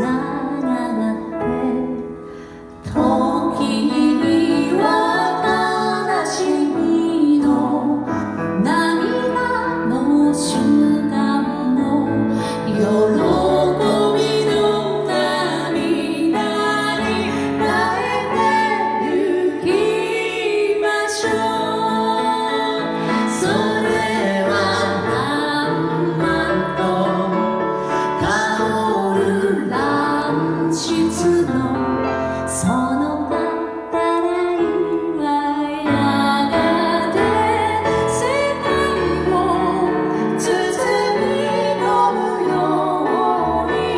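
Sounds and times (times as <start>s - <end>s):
woman singing into a microphone: 0.0s - 2.2s, 2.8s - 43.9s
piano accompaniment: 0.0s - 43.9s.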